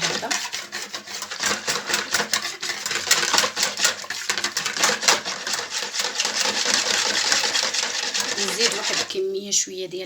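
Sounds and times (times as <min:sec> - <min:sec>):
batter mixing in a bowl: 0:00.0 - 0:09.3.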